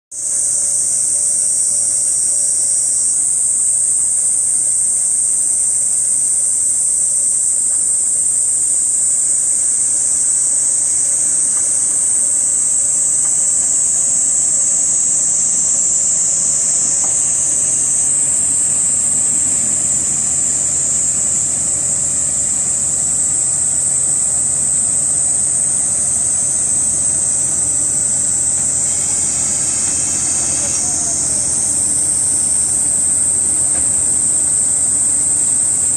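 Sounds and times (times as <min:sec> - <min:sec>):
cicadas buzzing: 0:00.1 - 0:35.9
diesel railcar engine rumble: 0:00.2 - 0:35.9.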